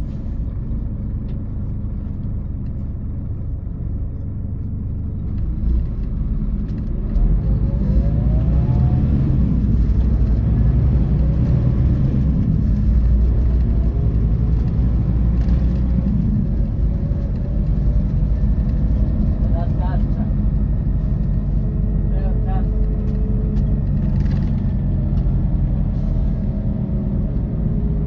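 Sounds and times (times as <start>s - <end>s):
bus diesel engine accelerating: 0.0s - 28.0s
road noise inside bus: 0.0s - 28.0s.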